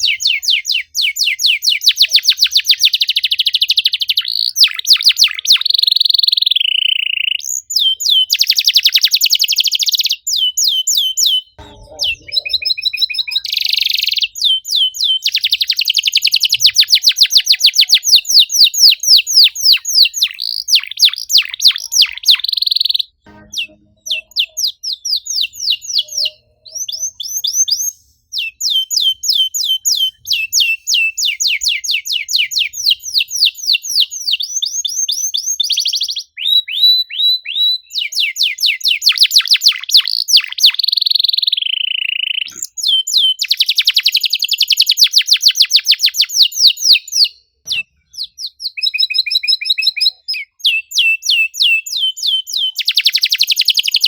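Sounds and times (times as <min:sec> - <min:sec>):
canary singing chirps and trills: 0:00.0 - 0:54.0.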